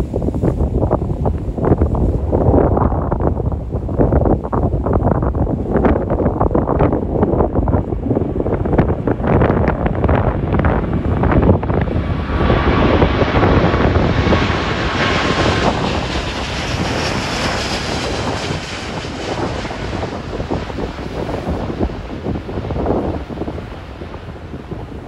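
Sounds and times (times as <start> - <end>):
jet engines at takeoff: 0.0 - 25.0
wind buffeting microphone: 0.0 - 25.0.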